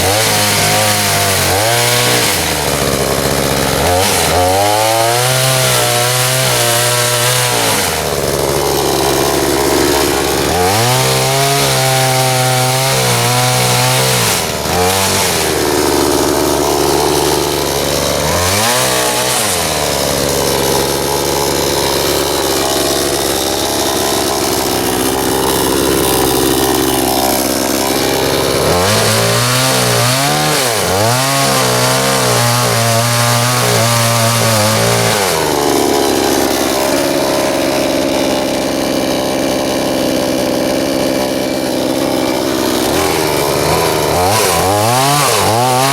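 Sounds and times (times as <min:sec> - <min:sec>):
chain rasping in wood: 0:00.0 - 0:45.9
chainsaw engine at full throttle: 0:00.0 - 0:45.9.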